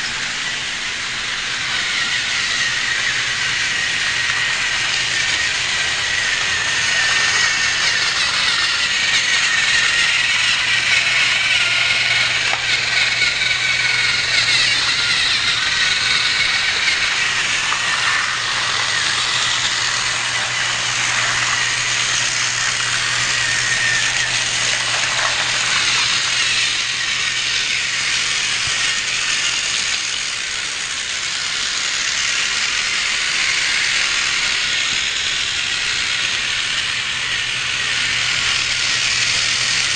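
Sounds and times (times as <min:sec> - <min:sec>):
toy train rattling and whirring: 0:00.0 - 0:39.9.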